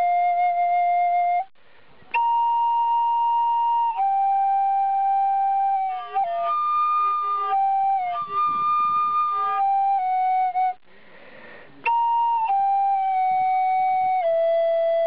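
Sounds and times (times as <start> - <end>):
solo flute melody: 0.0 - 1.5, 2.1 - 10.8, 11.8 - 15.0.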